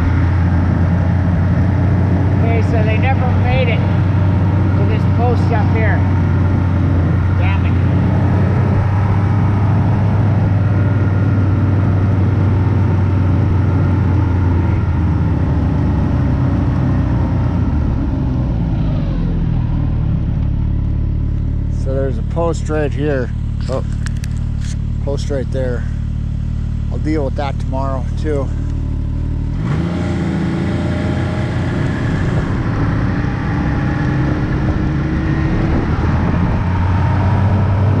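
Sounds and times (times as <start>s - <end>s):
small vehicle engine running: 0.0s - 38.0s.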